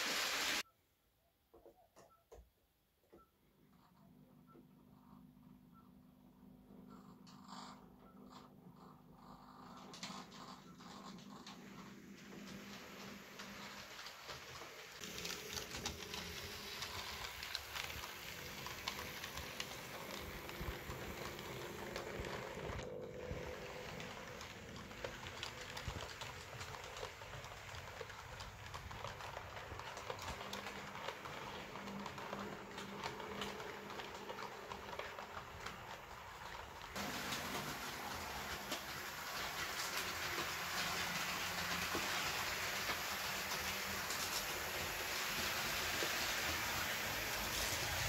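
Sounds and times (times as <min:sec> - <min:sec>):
faint motor hum: 0:03.2 - 0:48.0
model train wheels clicking on rails: 0:09.2 - 0:48.0.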